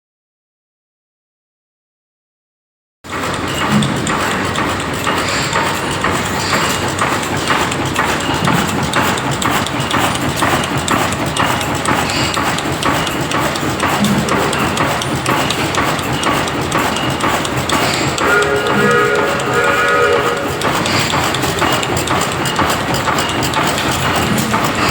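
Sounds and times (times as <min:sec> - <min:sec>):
diesel engine clattering: 0:03.1 - 0:24.9.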